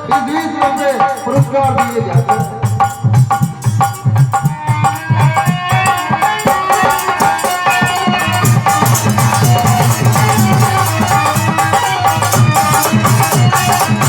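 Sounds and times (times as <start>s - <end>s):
rattling hand percussion: 0.0s - 14.0s
steady rhythmic drum beats: 0.0s - 14.0s
sustained melody line: 0.0s - 14.0s.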